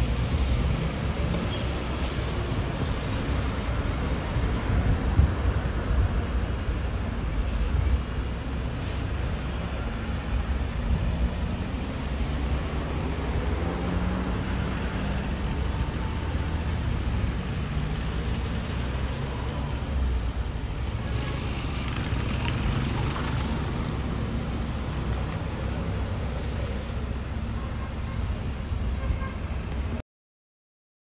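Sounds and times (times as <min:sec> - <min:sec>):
street traffic: 0:00.0 - 0:30.0.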